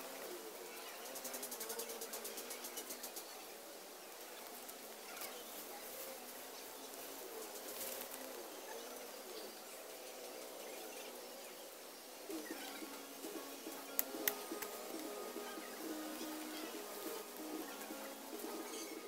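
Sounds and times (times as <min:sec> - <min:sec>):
birds calling: 0:00.0 - 0:19.0
outdoor yard ambience: 0:00.0 - 0:19.0.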